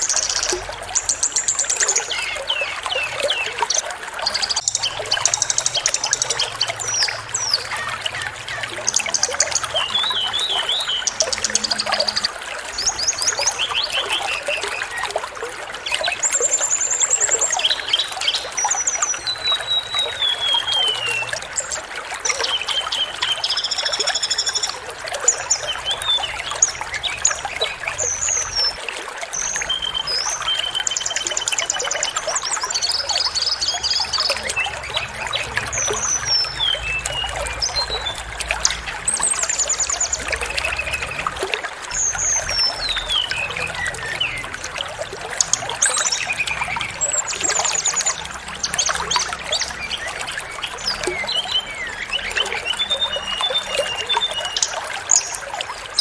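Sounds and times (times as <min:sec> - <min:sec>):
flowing water: 0:00.0 - 0:56.0
small songbirds chirping: 0:00.0 - 0:56.0.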